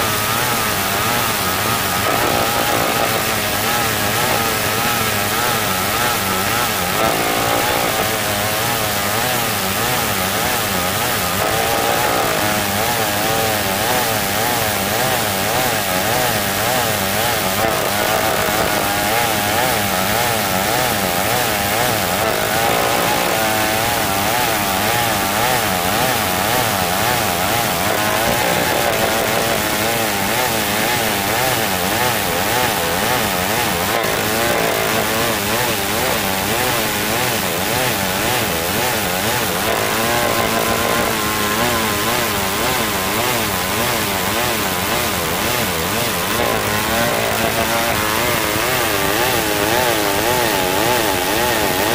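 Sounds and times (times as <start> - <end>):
chainsaw cutting log: 0.0 - 51.9.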